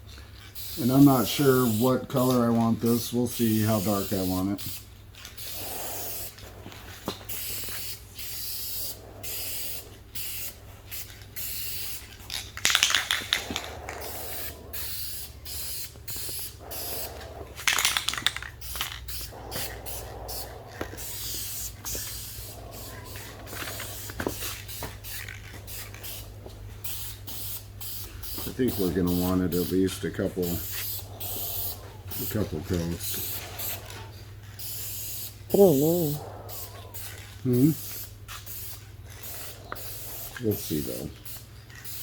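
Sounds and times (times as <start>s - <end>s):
steady low hum: 0.0s - 42.0s
aerosol spray can hissing: 2.9s - 6.4s, 7.0s - 34.0s, 34.6s - 42.0s.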